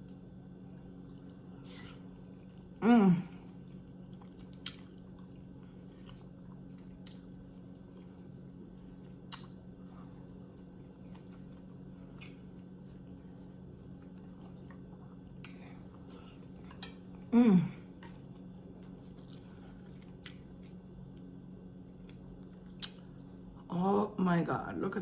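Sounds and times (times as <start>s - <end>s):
person chewing food: 0.0s - 23.6s
low background hum: 0.0s - 25.0s.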